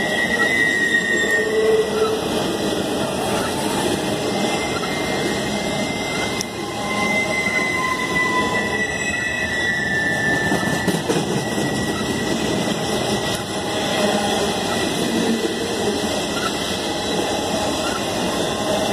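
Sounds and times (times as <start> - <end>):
high wheel squeals: 0.0 - 2.4, 3.2 - 18.9
train wheels rumbling on rail: 0.0 - 18.9.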